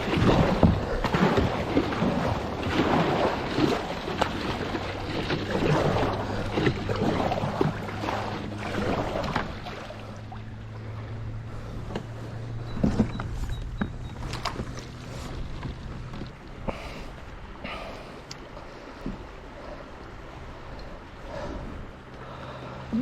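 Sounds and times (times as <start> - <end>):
steady low hum: 0.0 - 23.0
water splashing against kayak: 0.0 - 23.0.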